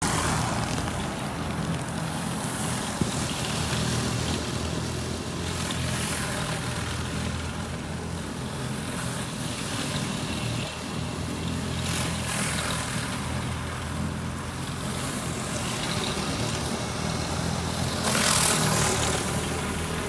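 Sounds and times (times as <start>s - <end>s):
pressure washer engine running: 0.0s - 20.0s.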